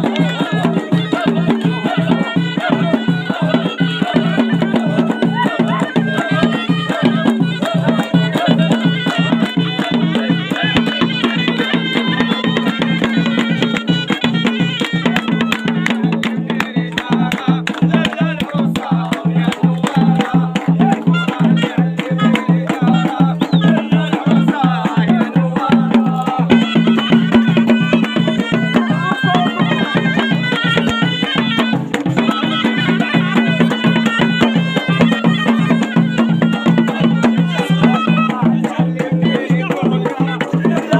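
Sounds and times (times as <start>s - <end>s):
fast drum beat: 0.0s - 40.9s
reed shawm folk melody: 0.0s - 40.9s.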